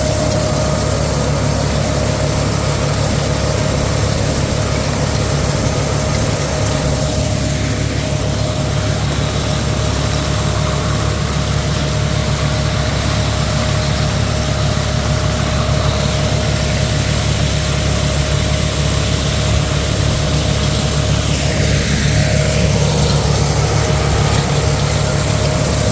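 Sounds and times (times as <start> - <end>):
harvesting machine engine hum: 0.0 - 25.9.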